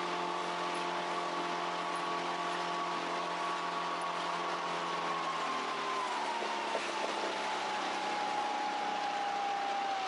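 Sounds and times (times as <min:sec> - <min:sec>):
boat engine droning: 0:00.0 - 0:10.0
wind and water rushing: 0:00.0 - 0:10.0.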